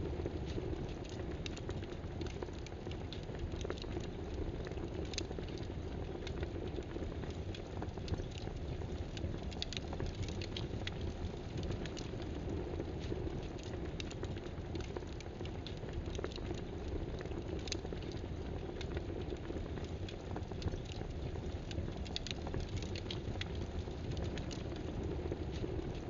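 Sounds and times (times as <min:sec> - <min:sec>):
background hiss and rumble: 0:00.0 - 0:26.0.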